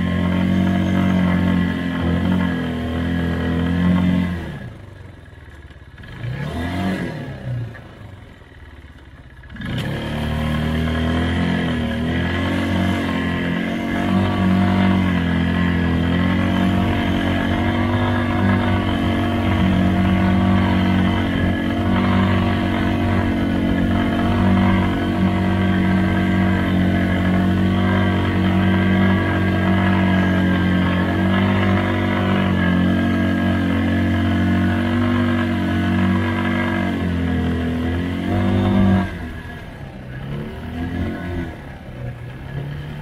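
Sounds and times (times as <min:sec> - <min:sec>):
atv engine running: 0:00.0 - 0:43.0.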